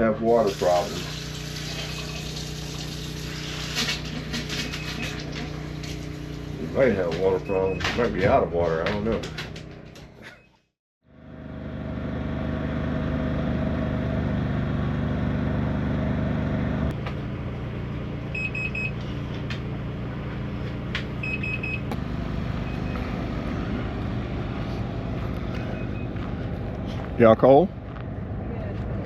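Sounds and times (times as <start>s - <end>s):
road traffic noise: 0.0s - 10.2s, 11.1s - 29.0s
vehicle engine hum: 0.0s - 10.4s, 11.0s - 29.0s.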